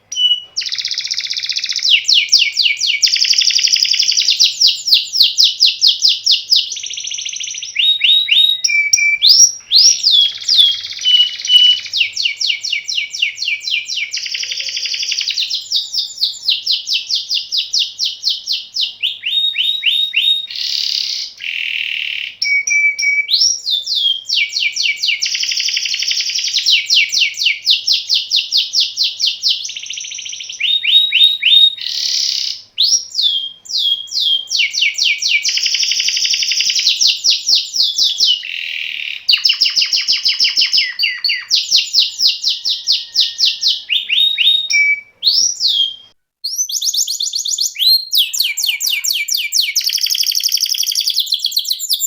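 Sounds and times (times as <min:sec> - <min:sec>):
canary singing rolling trills: 0:00.0 - 0:52.0.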